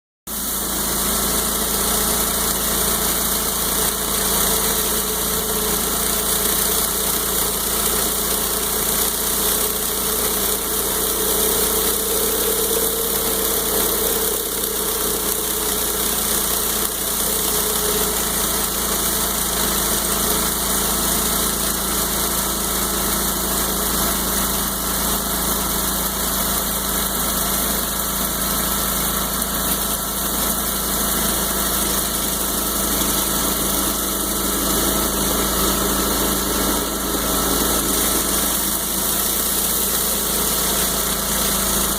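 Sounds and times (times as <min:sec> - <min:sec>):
pressure washer engine running: 0:00.3 - 0:41.9
water jets hissing on concrete: 0:00.3 - 0:41.9.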